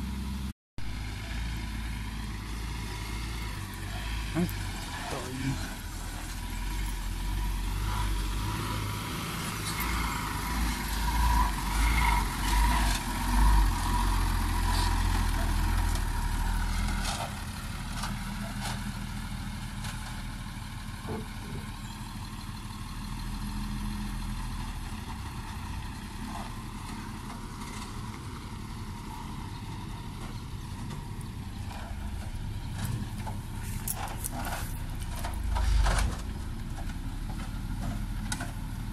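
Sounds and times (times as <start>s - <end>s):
diesel truck engine driving: 0.0s - 38.9s.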